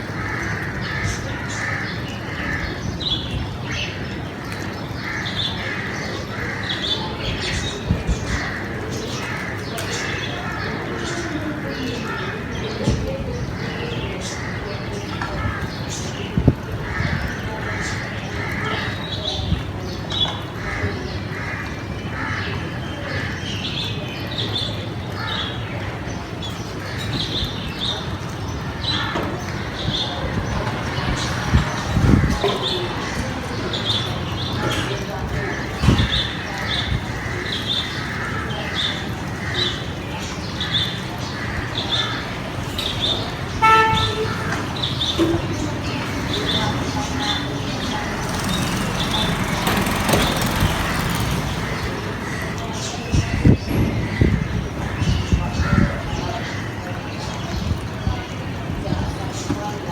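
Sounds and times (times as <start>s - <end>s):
background murmur: 0.0s - 59.9s
birds chirping: 0.0s - 59.9s
steady background noise: 0.0s - 59.9s.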